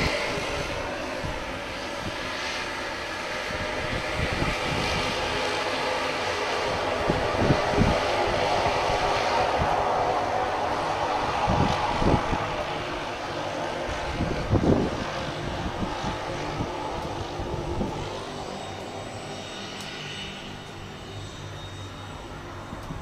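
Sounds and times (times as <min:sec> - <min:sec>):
turboprop engine and propeller drone: 0:00.0 - 0:23.0.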